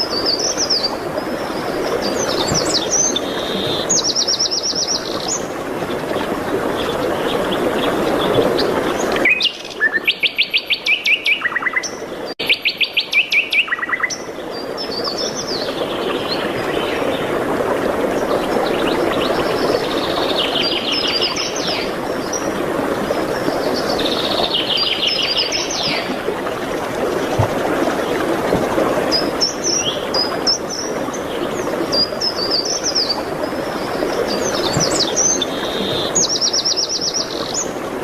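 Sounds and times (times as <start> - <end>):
songbirds trilling and warbling: 0.0 - 38.0.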